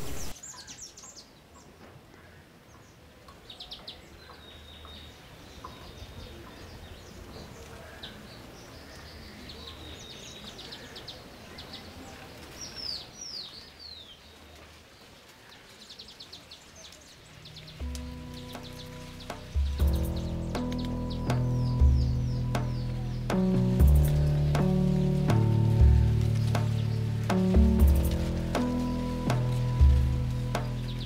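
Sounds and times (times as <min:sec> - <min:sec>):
small birds chirping and trilling: 0:00.0 - 0:31.0.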